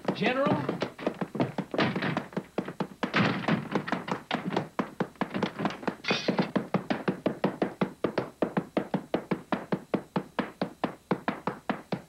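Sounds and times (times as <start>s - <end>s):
child pounding wooden floor: 0.0s - 12.0s.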